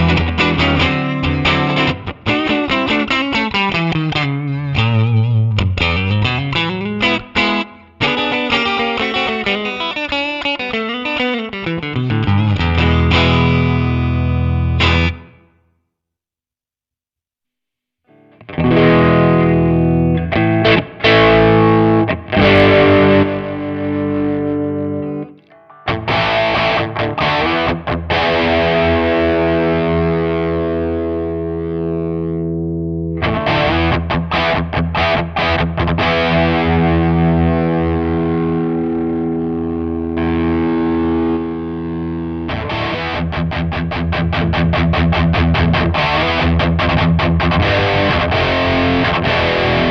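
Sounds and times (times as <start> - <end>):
distorted electric guitar chords: 0.0 - 15.5, 18.1 - 49.9.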